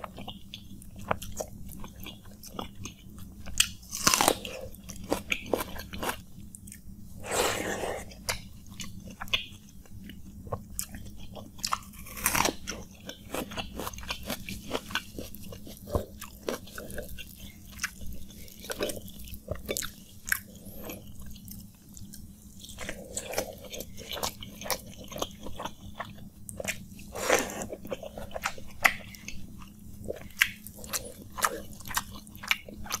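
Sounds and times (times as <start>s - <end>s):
close chewing of rice: 0.0s - 33.0s
steady low hum: 0.0s - 33.0s.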